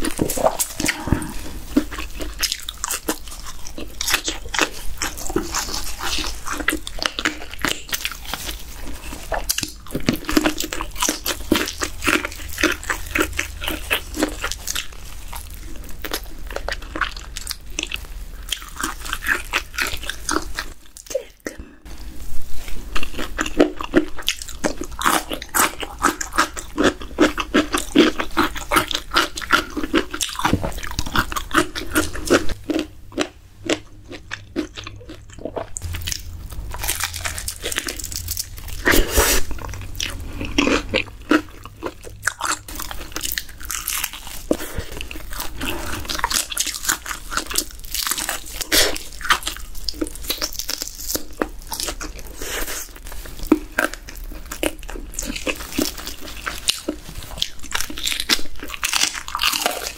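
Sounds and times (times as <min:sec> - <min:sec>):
crunchy bites and chewing: 0:00.0 - 0:21.6, 0:22.8 - 0:59.9.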